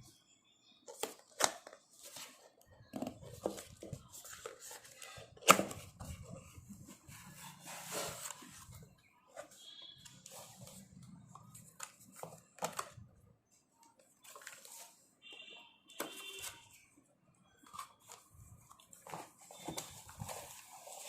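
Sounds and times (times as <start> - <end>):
keyboard packaging rustling: 0.9 - 13.2, 13.8 - 15.1, 17.4 - 21.0.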